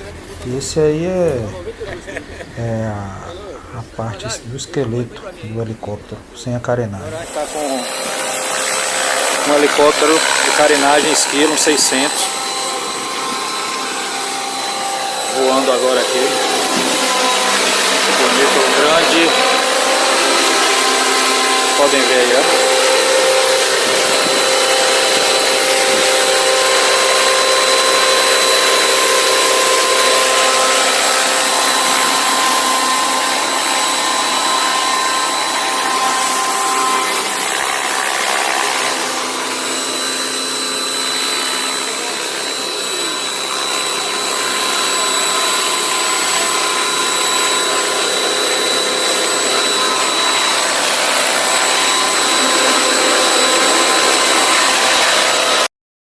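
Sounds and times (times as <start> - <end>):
rc helicopter motor whine: 7.0 - 55.7
rotor blades rushing: 7.0 - 55.7.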